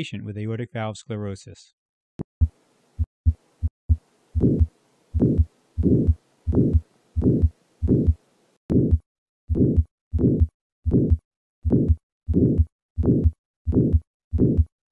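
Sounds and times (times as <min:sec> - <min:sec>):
heartbeat with murmur: 0:02.4 - 0:14.8.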